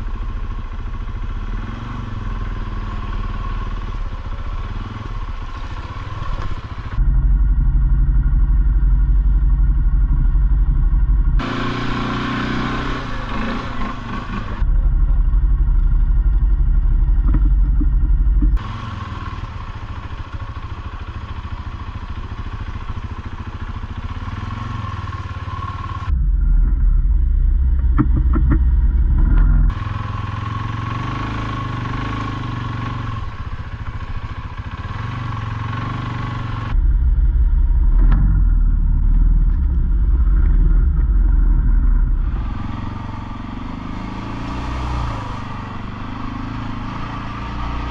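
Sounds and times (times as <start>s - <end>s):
atv engine running: 0.0s - 47.9s
heavy low rumble: 3.6s - 18.8s, 19.4s - 30.7s, 32.3s - 47.9s.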